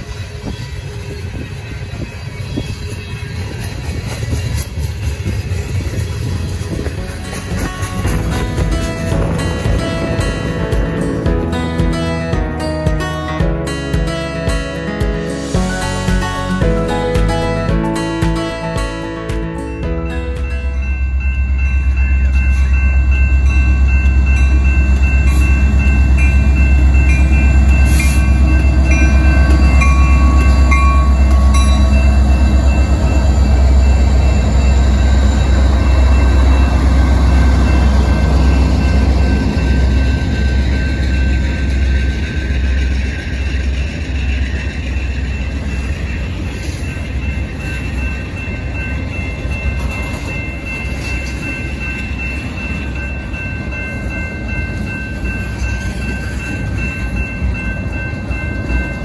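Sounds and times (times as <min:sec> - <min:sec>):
crossing warning bell ringing: 0:00.0 - 0:59.0
diesel locomotive engine rumble: 0:00.0 - 0:59.0.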